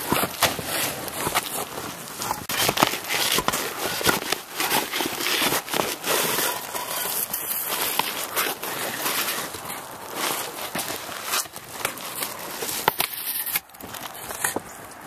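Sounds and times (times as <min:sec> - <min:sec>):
footsteps on loose shingles: 0:00.0 - 0:15.0
shingles being torn off roof: 0:00.0 - 0:15.0.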